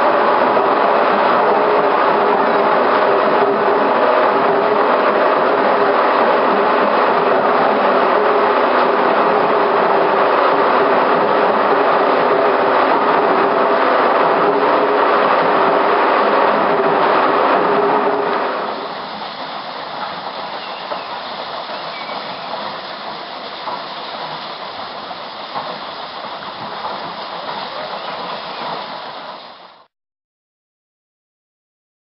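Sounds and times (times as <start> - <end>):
loud mechanical noise: 0.0 - 29.9.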